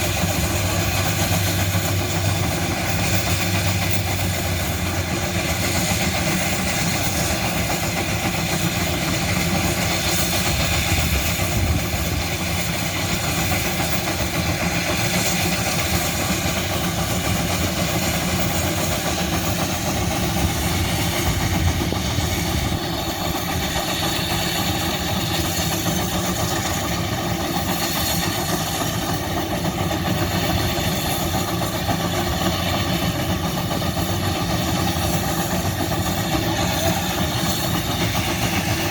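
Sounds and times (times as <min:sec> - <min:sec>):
old gas engines chuffing: 0:00.0 - 0:38.9.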